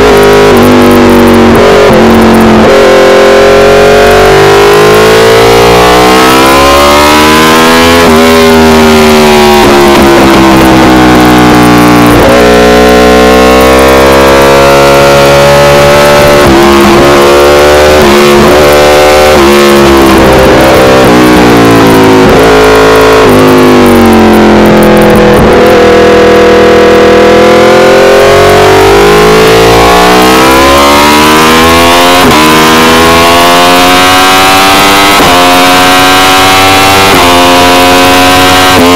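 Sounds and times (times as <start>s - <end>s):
motorcycle engine revving and shifting: 0.0s - 38.9s.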